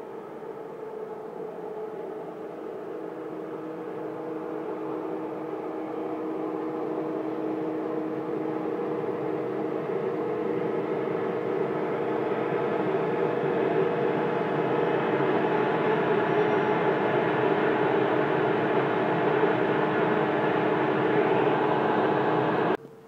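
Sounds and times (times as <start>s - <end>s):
train humming with steady tones: 0.0s - 22.8s.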